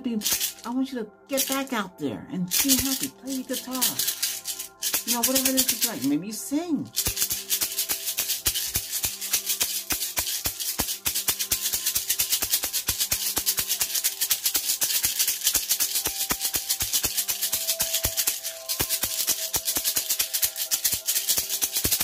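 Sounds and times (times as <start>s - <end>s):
shaker rattle: 0.1s - 1.7s, 2.5s - 22.0s.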